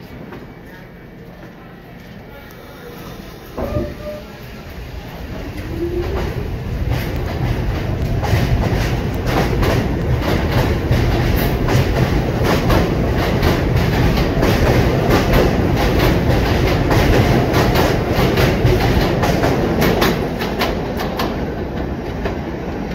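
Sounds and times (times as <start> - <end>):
subway train wheels rumbling: 0.0 - 22.9.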